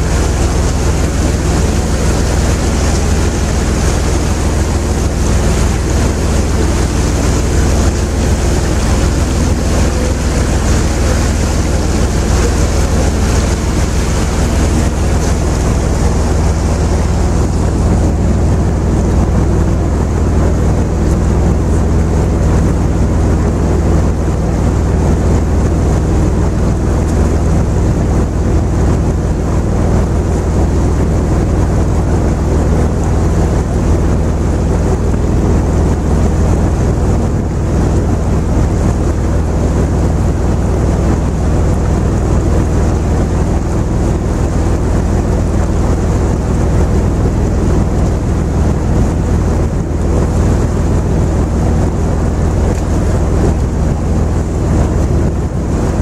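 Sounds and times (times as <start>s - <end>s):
boat diesel engine drone: 0.0s - 56.0s
wind noise: 0.0s - 56.0s.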